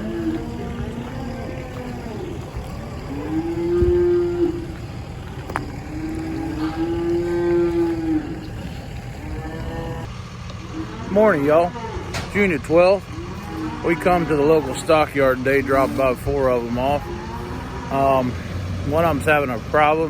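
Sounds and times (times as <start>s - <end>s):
cattle mooing: 0.0s - 19.5s.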